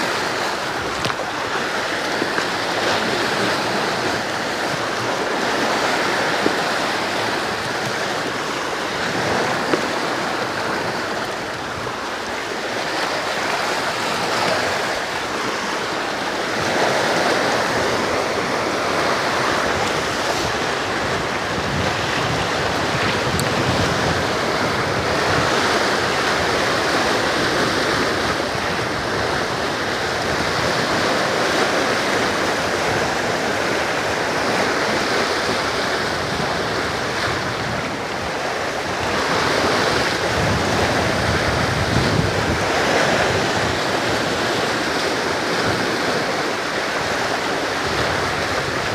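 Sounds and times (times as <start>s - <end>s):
sea waves washing on rocks: 0.0s - 48.9s
wind on microphone: 0.0s - 48.9s.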